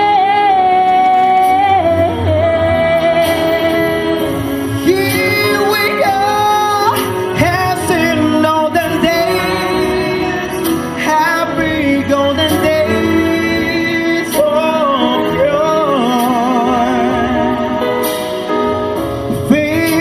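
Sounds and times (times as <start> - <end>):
man singing into microphone: 0.0 - 18.4, 19.0 - 20.0
pop music accompaniment: 0.0 - 20.0.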